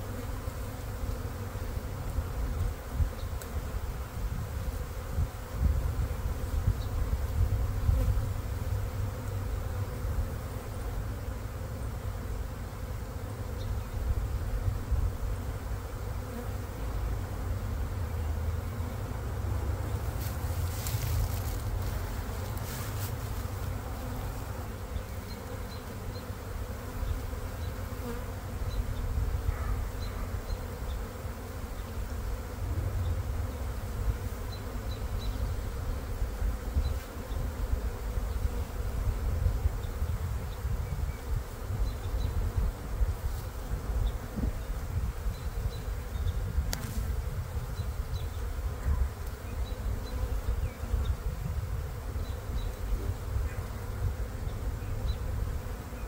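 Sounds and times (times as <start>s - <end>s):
bee swarm buzzing: 0.0s - 56.0s.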